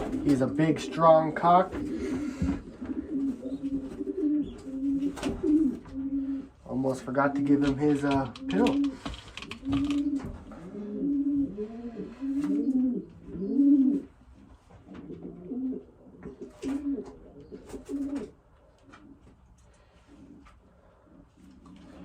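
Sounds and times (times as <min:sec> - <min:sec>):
pigeons cooing: 0:00.0 - 0:06.7, 0:07.4 - 0:14.3, 0:14.9 - 0:19.3, 0:20.0 - 0:22.0.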